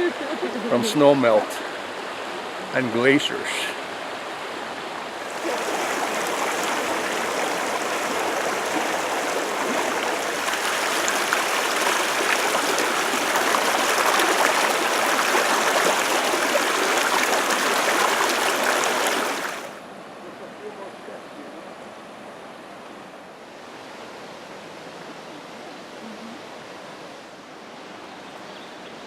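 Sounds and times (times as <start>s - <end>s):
creek water rushing: 0.0s - 29.0s.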